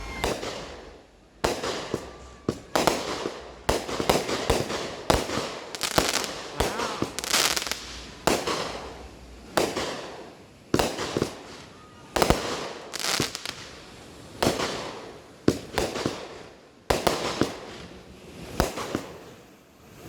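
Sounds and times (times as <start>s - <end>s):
fireworks bangs echoing: 0.0s - 19.4s
fireworks crackling hiss: 0.0s - 20.0s.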